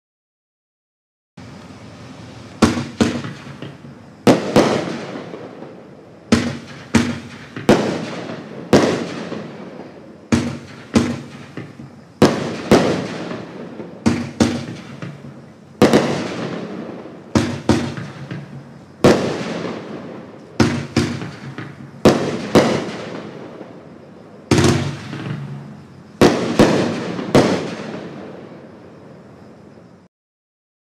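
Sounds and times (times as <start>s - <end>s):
fireworks cake sharp bangs: 2.6s - 29.2s.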